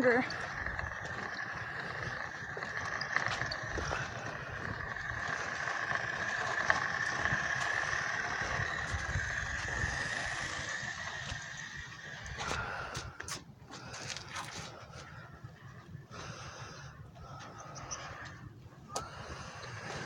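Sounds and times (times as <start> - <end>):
toy truck electric motor whine: 0.0 - 20.0.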